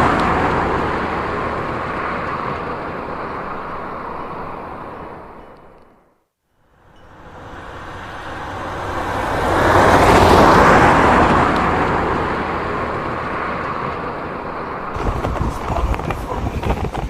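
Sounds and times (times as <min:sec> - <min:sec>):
car passing at speed: 0:00.0 - 0:05.5, 0:06.8 - 0:16.4.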